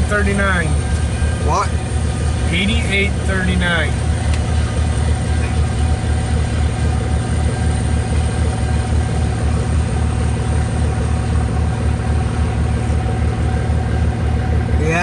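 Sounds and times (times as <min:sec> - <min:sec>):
locomotive engine throbbing: 0:00.0 - 0:15.0.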